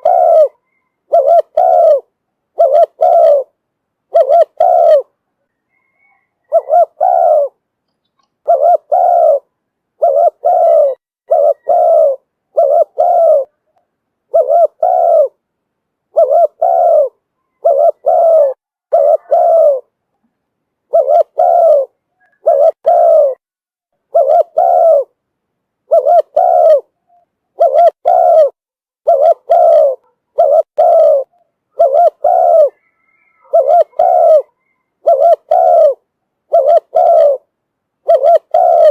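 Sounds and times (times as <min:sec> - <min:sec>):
dove cooing: 0:00.0 - 0:07.6, 0:08.4 - 0:15.4, 0:16.1 - 0:19.9, 0:20.9 - 0:23.4, 0:24.0 - 0:25.2, 0:25.8 - 0:38.9.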